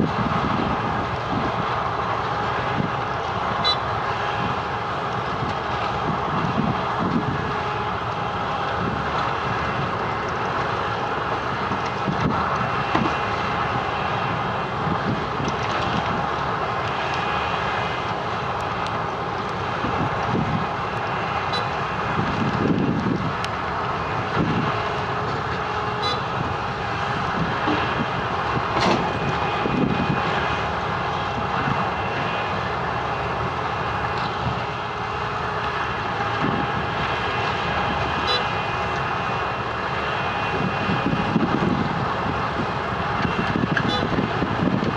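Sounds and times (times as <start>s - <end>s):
heavy machine drone: 0.0s - 44.9s.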